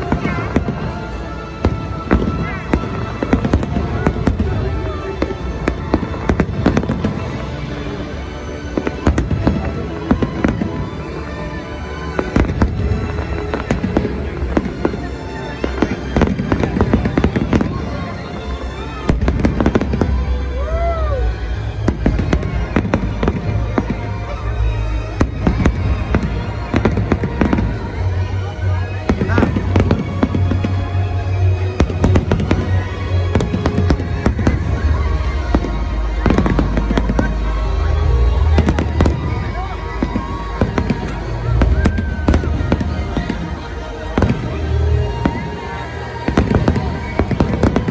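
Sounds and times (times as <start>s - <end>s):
fireworks bursting: 0.0s - 47.9s
music playing: 0.0s - 47.9s.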